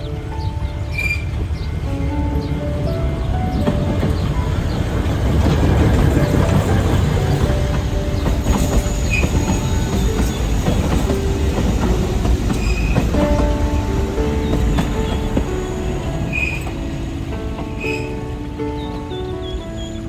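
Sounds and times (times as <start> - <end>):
train wheels rumbling on rails: 0.0 - 20.0
train wheels squealing: 0.0 - 20.0.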